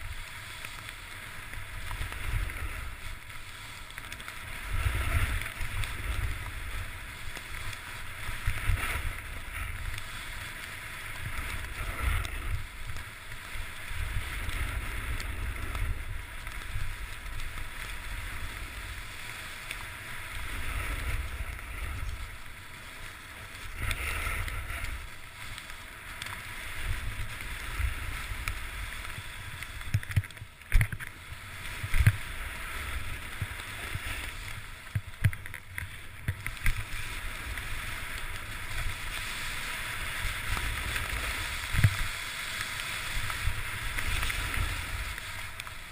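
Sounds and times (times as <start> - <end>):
skis sliding through snow: 0.0 - 45.9.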